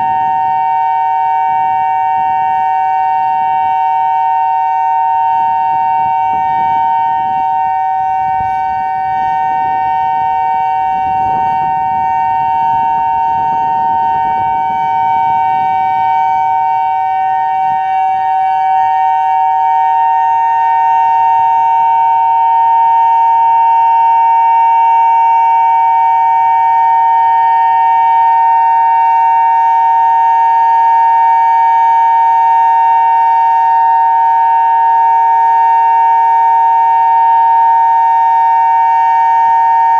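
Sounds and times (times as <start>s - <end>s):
two-note warning siren: 0.0s - 39.9s.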